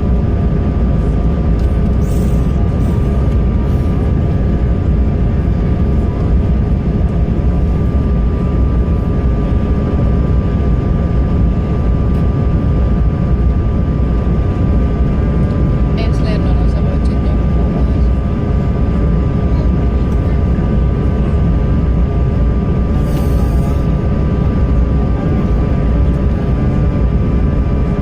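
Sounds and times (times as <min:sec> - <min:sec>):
airliner cabin engine roar: 0:00.0 - 0:28.0
steady one-pitch hum: 0:00.0 - 0:28.0.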